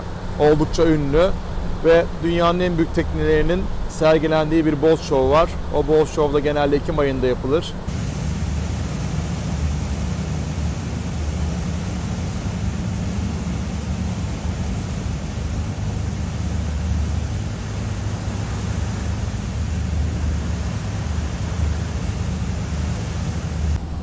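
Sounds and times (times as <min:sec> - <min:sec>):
low engine drone: 0:00.0 - 0:24.0
wind and water rushing: 0:00.0 - 0:24.0.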